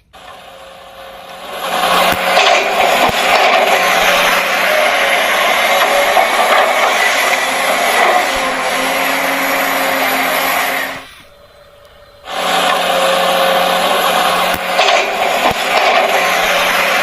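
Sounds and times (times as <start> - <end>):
small electric motors whirring: 0.2 - 17.0.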